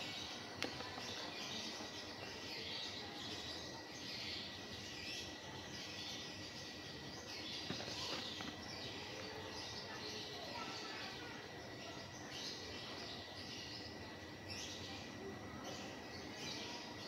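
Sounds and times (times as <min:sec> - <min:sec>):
faint chirping: 0:00.0 - 0:17.0.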